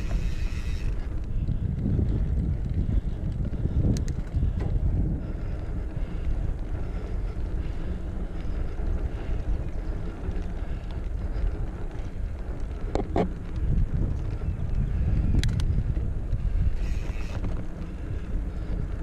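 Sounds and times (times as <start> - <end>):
mountain bike riding noise: 0.0 - 19.0
wind rumbling on microphone: 0.0 - 19.0.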